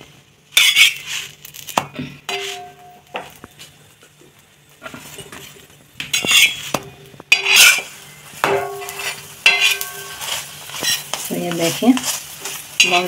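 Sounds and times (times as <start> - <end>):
spatula scraping griddle: 0.5 - 1.7, 2.3 - 3.6, 4.8 - 13.0.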